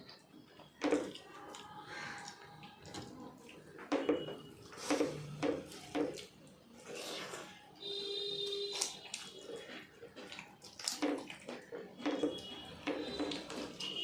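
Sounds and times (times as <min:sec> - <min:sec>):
wet chewing and smacking: 0:00.0 - 0:14.0.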